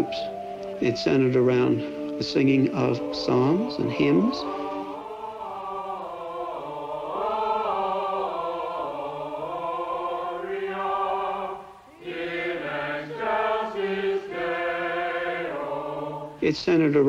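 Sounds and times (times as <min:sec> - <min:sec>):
group singing a slow chant: 0:02.0 - 0:16.4.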